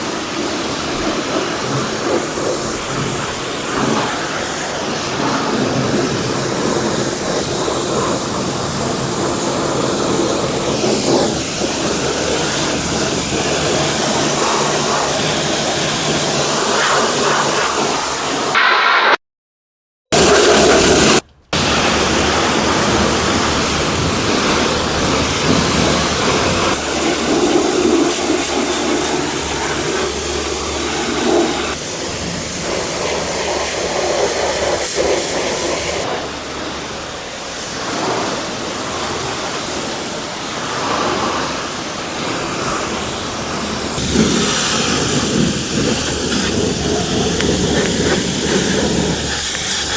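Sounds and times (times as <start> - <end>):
pressure washer jet hissing: 0.0 - 19.2, 20.2 - 49.9.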